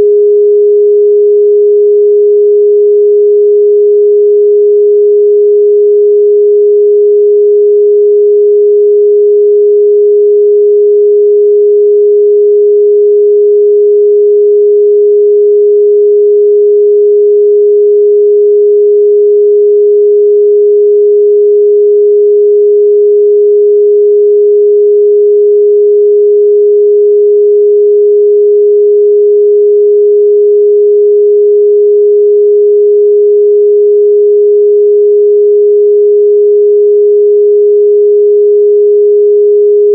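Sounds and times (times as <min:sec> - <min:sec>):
pure sine test tone: 0:00.0 - 0:39.9.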